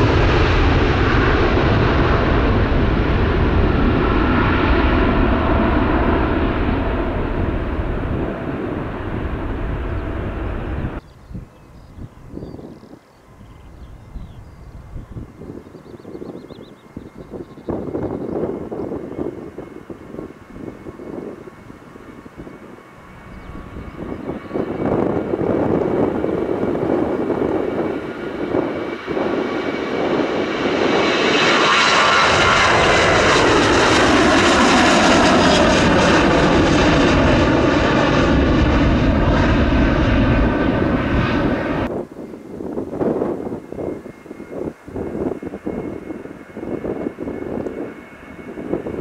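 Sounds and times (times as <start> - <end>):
jet airliner taking off: 0.0 - 11.0, 13.3 - 49.0.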